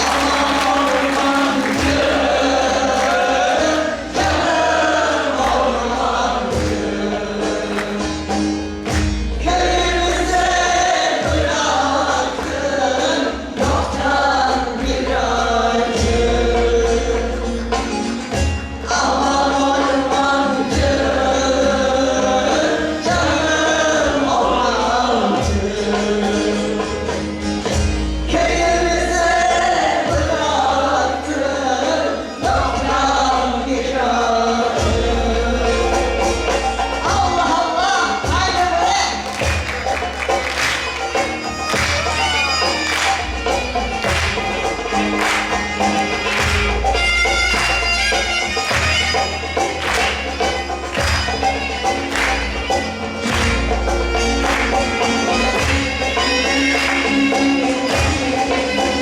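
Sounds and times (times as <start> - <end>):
percussion beat: 0.0 - 31.0, 34.4 - 59.0
choir singing folk music: 0.0 - 59.0
instrumental accompaniment: 0.0 - 59.0.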